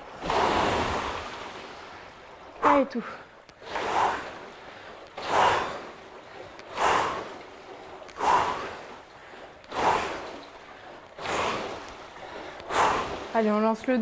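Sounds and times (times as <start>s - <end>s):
rowing machine water whooshing: 0.0s - 14.0s.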